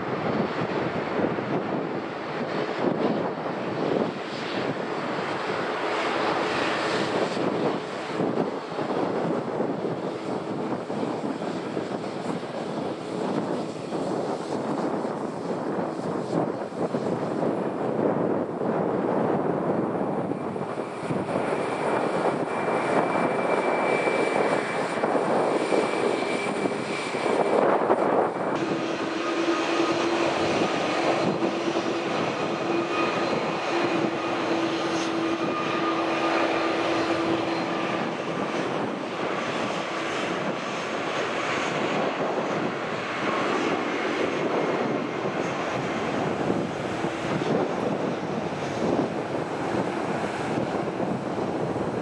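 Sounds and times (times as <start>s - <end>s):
jet engines running loud: 0.0s - 52.0s.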